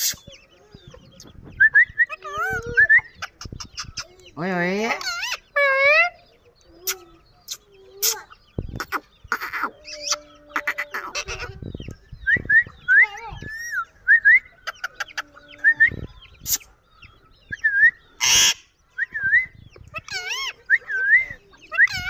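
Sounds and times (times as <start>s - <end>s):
parakeets chattering and squawking: 0.0s - 18.9s, 19.6s - 22.0s.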